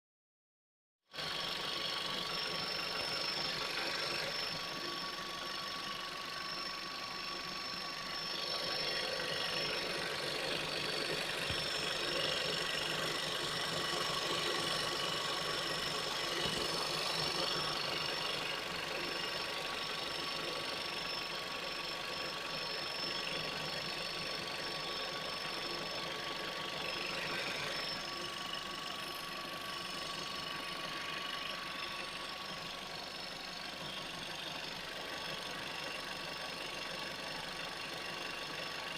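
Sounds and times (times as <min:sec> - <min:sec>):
engine idling: 0:01.1 - 0:38.9.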